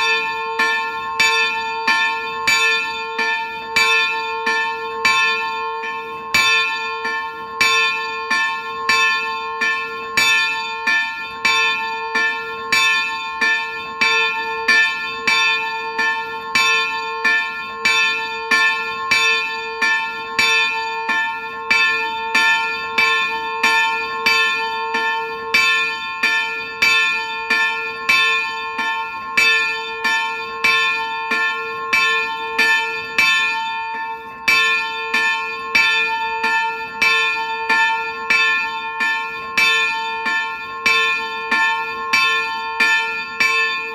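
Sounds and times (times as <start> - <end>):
church bell ringing: 0.0 - 43.9.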